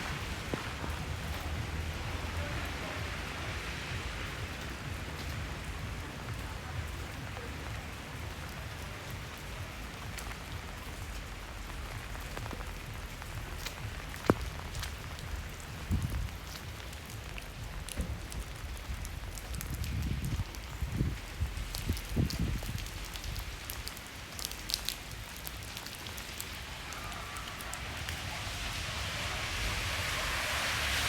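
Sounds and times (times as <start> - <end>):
rain on a wet street: 0.0 - 31.0
water drips: 0.0 - 31.0.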